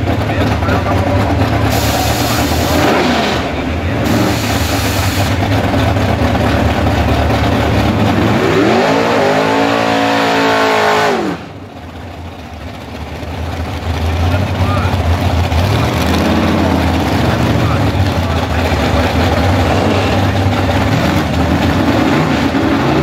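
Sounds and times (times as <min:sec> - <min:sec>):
race car engine revving and idling: 0:00.0 - 0:23.0.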